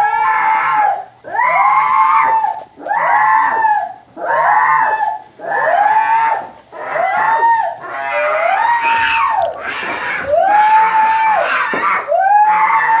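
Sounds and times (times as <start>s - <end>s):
children screaming and wailing: 0.0s - 13.0s.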